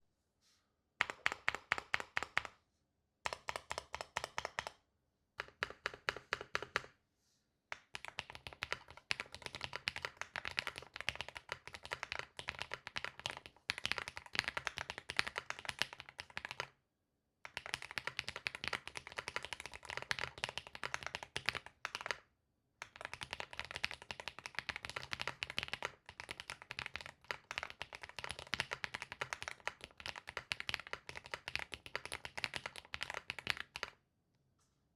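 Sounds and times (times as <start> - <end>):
mechanical keyboard typing: 1.0 - 2.6, 3.3 - 4.8, 5.4 - 6.9, 7.8 - 16.7, 17.5 - 22.2, 22.8 - 34.0.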